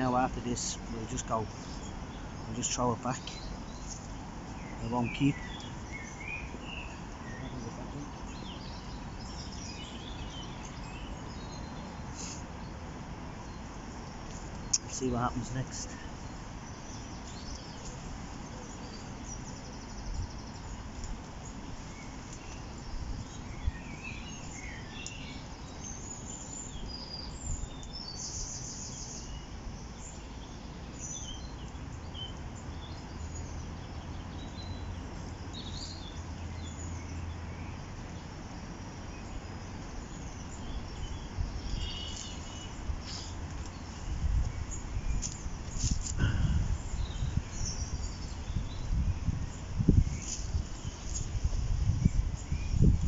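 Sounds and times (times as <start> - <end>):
outdoor background rush: 0.0 - 53.0
songbird chirps: 0.0 - 53.0.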